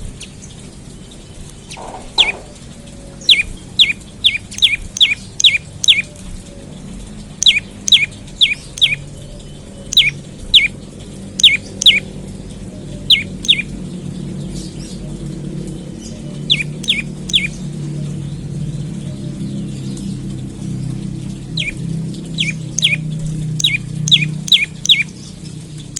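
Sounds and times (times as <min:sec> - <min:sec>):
songbird chirping: 0:00.0 - 0:25.9
steady low hum: 0:00.0 - 0:25.9.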